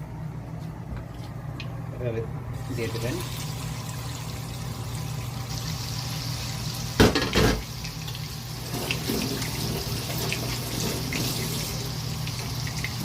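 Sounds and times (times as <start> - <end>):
chicken sizzling in hot oil: 2.6 - 13.0.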